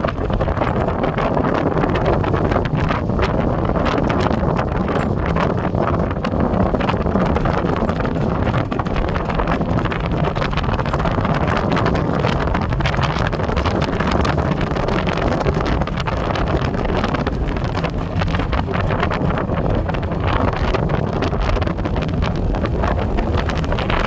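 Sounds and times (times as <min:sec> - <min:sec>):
atv engine running: 0:00.0 - 0:24.0
wind buffeting microphone: 0:00.0 - 0:24.0.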